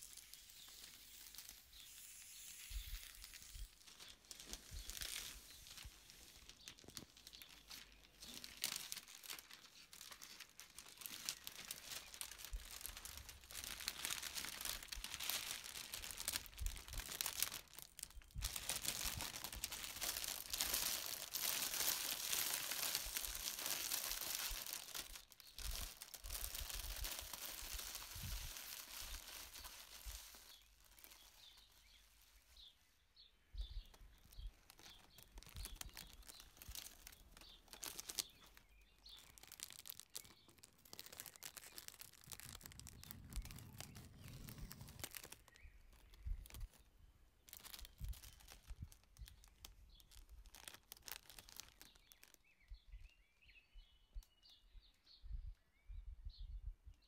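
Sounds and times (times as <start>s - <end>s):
cellophane crinkling: 0.0s - 32.7s, 33.8s - 52.5s.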